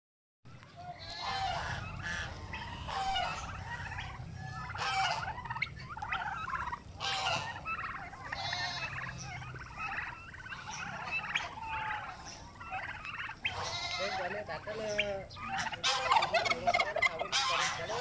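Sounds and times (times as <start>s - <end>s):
young turkeys calling: 0.5s - 18.0s.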